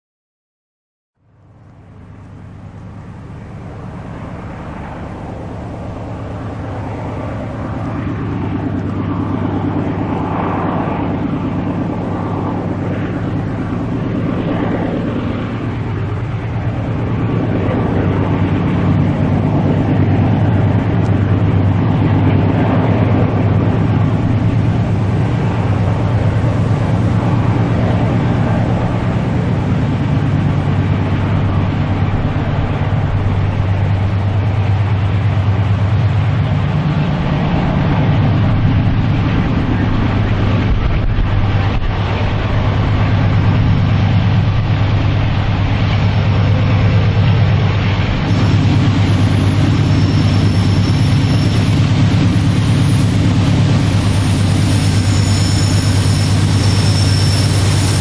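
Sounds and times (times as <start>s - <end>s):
diesel locomotive engines droning: 1.2s - 58.0s.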